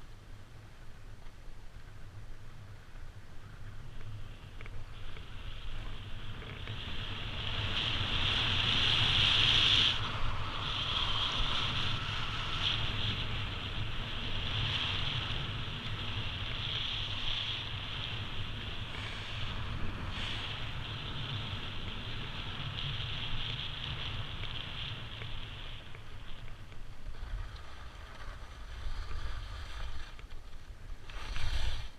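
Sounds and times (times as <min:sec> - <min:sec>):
wind rumbling on microphone: 0:00.0 - 0:31.9
skis scraping over snow: 0:03.7 - 0:31.9.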